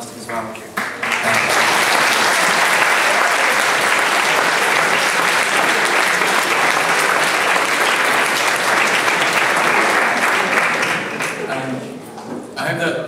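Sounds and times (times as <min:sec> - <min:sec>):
audience applauding: 0:00.2 - 0:11.9.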